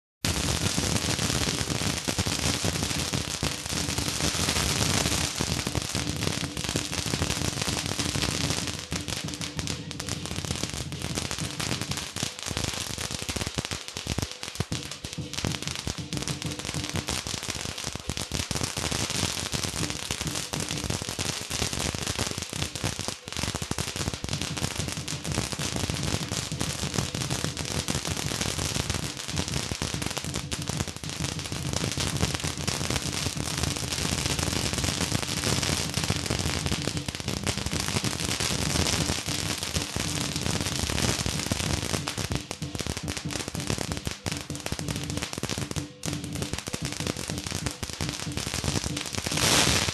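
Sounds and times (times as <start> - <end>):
firecrackers going off: 0.2 - 49.9.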